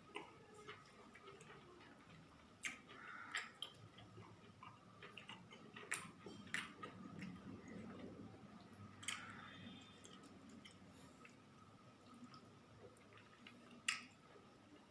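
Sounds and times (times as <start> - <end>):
soft chewing: 0.0 - 14.9.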